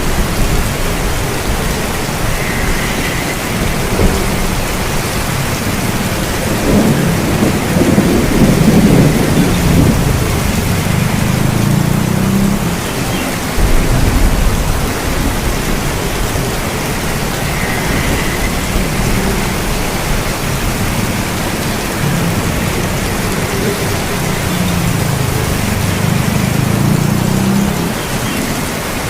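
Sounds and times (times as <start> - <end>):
heavy rain hiss: 0.0 - 29.0
rolling thunder rumbles: 0.0 - 29.0.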